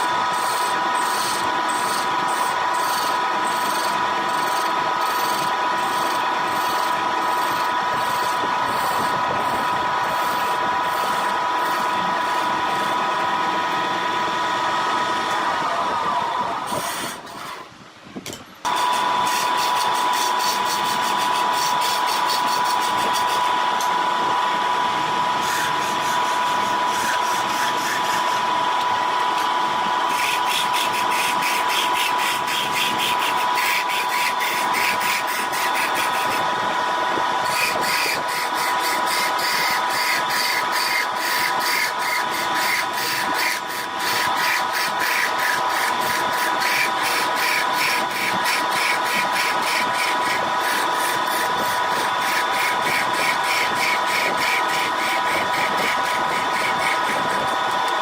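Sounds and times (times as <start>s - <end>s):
turning tool scraping wood: 0.0s - 13.9s, 16.6s - 17.7s, 18.7s - 24.0s, 25.3s - 36.6s, 37.3s - 58.0s
wood lathe whine: 0.0s - 17.7s, 18.6s - 58.0s.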